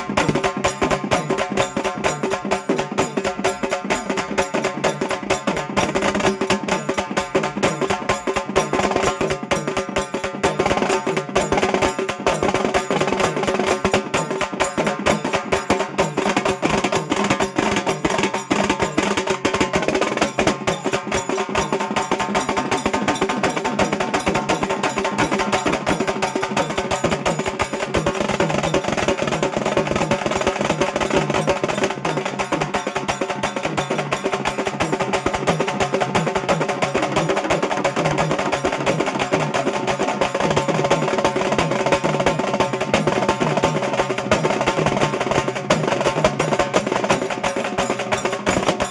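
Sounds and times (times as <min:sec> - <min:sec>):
frame drums beaten with sticks: 0:00.0 - 0:48.9.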